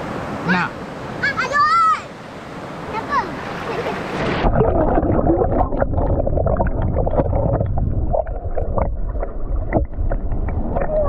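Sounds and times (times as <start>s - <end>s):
stream water flowing and splashing: 0.0s - 11.0s.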